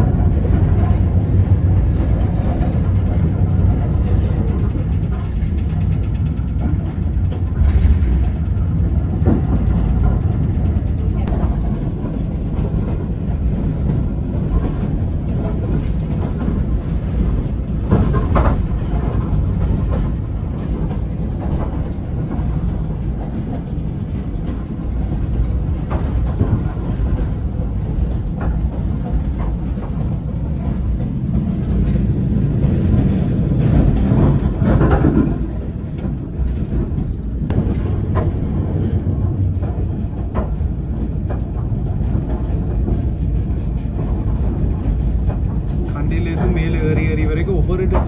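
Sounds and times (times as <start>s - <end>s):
train wheels clacking: 0.0s - 48.0s
train wheels rumbling on rails: 0.0s - 48.0s.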